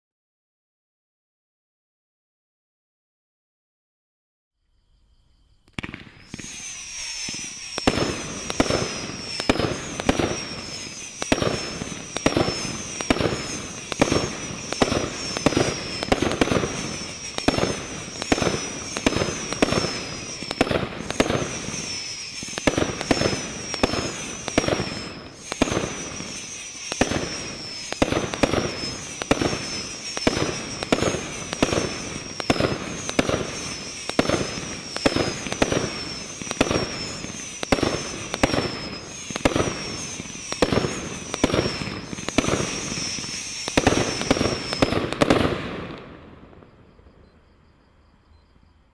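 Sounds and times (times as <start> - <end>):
fireworks aerial bursts: 5.6 - 47.2
fireworks launch thumps: 5.7 - 46.1.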